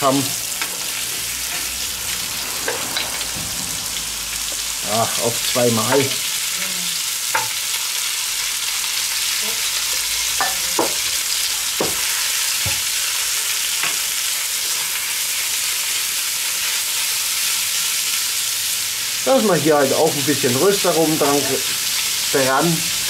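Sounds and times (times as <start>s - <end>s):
meat sizzling in hot oil: 0.0s - 23.0s.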